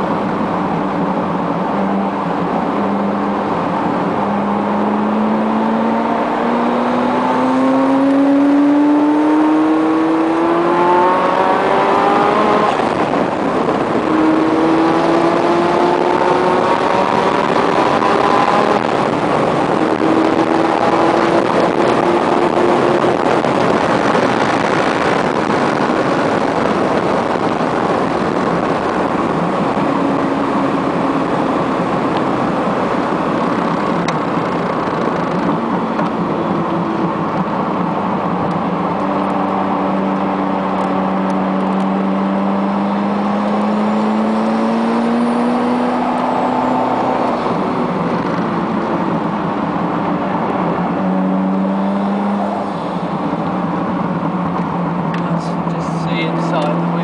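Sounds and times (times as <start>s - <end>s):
car engine roaring: 0.0s - 57.0s
road and wind noise: 0.0s - 57.0s.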